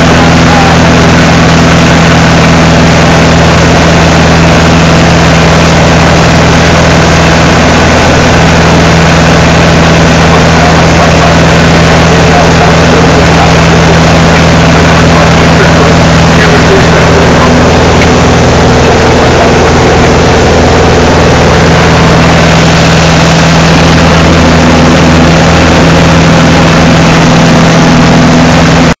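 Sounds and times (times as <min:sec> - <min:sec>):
propeller engine running: 0:00.0 - 0:29.0.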